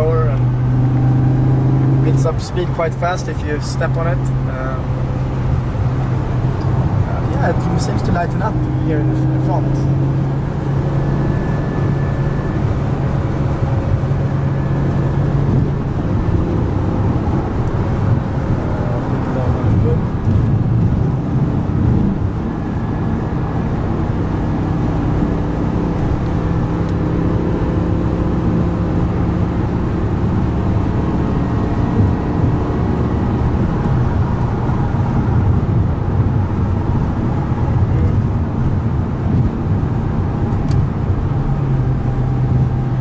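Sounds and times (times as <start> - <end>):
car engine cruising: 0.0 - 43.0.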